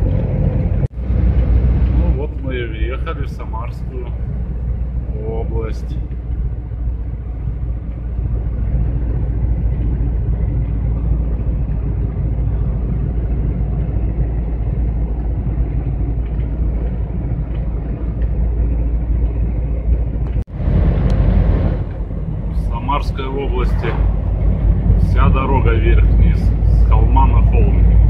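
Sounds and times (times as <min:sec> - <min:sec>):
van engine and road rumble: 0:00.0 - 0:28.0.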